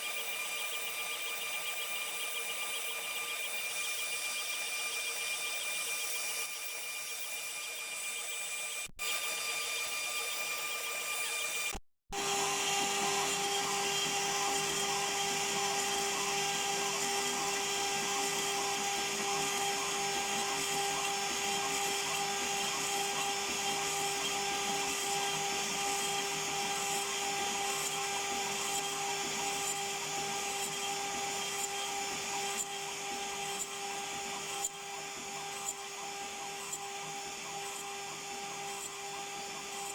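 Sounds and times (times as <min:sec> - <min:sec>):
router spindle whining: 0:00.1 - 0:39.9.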